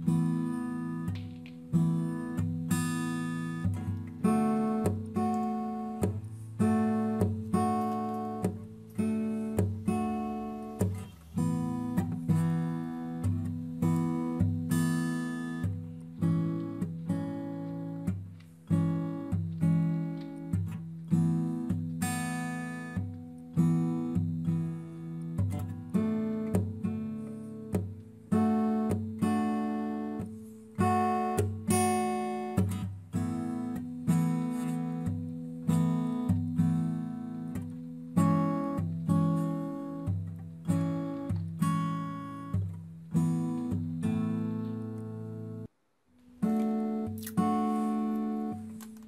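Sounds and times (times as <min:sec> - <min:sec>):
acoustic guitar music: 0:00.0 - 0:49.0.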